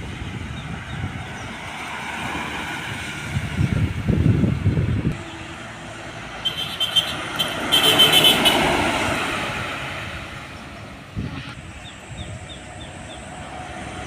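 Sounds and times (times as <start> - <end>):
truck passing by: 0.0 - 14.0.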